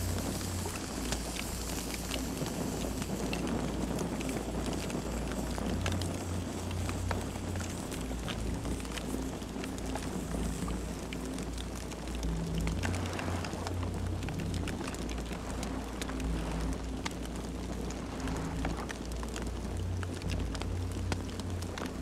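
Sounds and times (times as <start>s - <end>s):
burning wood popping and snapping: 0.0s - 22.0s
flames rumbling: 0.0s - 22.0s.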